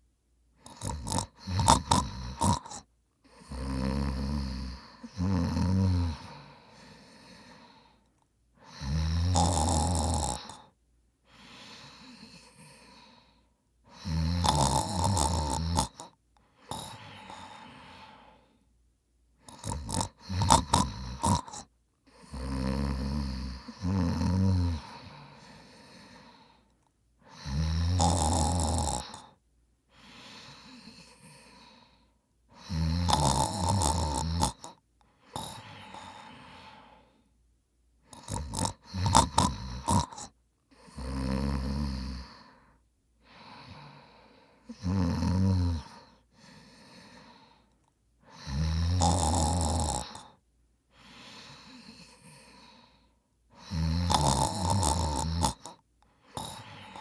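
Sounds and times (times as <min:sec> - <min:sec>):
man snoring: 0:00.6 - 0:07.9, 0:08.6 - 0:13.3, 0:13.9 - 0:18.4, 0:19.4 - 0:26.6, 0:27.3 - 0:37.1, 0:38.1 - 0:50.4, 0:51.0 - 0:57.0.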